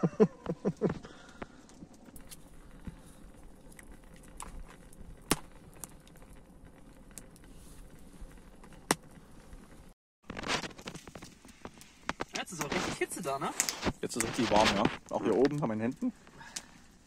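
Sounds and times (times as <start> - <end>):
campfire crackling: 0.0 - 17.0
sharp fire pops: 0.4 - 16.8.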